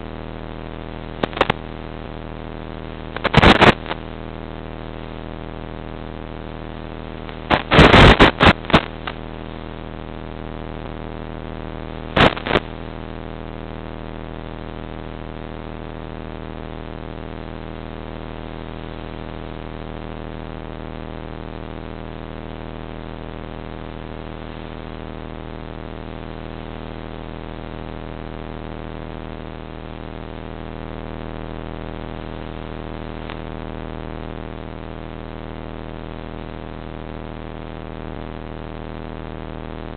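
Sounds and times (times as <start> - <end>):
droning hum: 0.0 - 39.9
loud radio crackles: 0.0 - 39.9.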